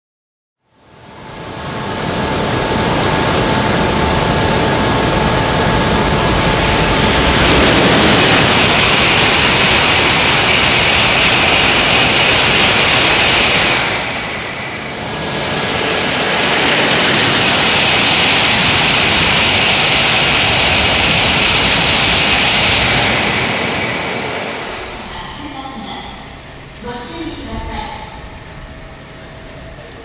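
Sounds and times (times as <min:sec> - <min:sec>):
high-speed train passing: 0:00.6 - 0:30.0.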